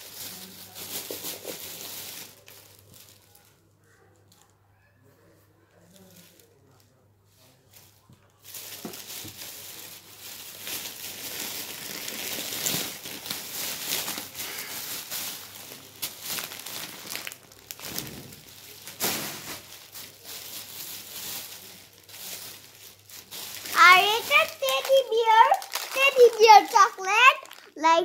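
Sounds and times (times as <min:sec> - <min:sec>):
plastic bag crinkling: 0:00.0 - 0:03.7, 0:07.6 - 0:28.0.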